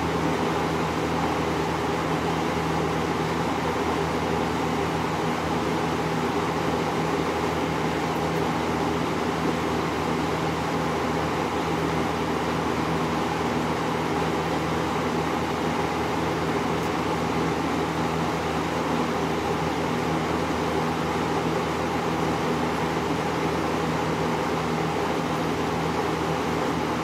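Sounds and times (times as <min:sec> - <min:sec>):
fan air rushing: 0:00.0 - 0:27.0.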